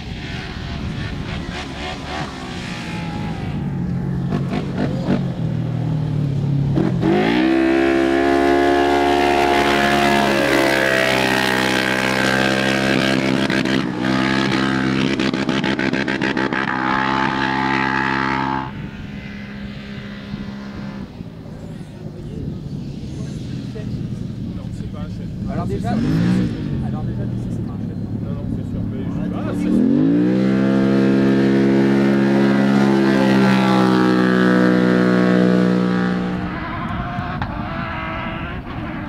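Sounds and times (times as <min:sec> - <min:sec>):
buggy engine revving: 0:00.0 - 0:39.0.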